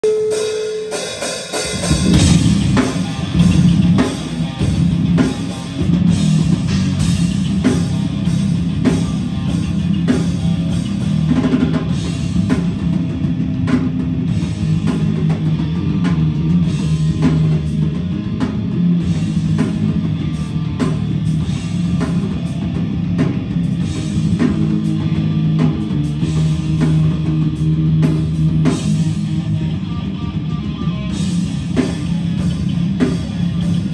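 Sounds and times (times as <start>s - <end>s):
bass guitar: 0.0s - 33.9s
distorted electric guitar: 0.0s - 33.9s
drum kit pounding: 0.0s - 33.9s.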